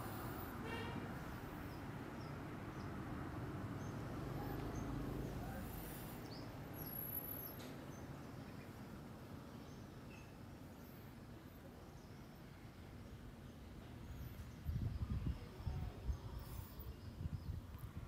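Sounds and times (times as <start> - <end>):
steady low background noise: 0.0 - 18.0.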